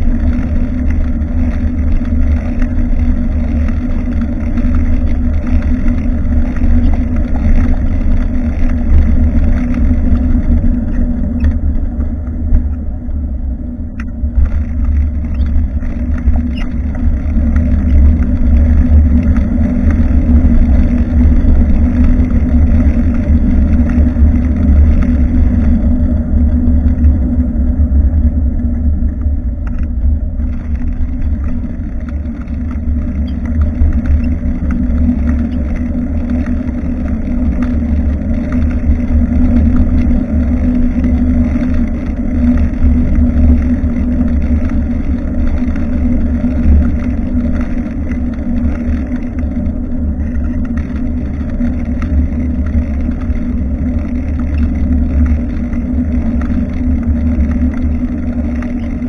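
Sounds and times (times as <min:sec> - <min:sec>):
road rumble: 0:00.0 - 0:59.0
wind on microphone: 0:00.0 - 0:59.0.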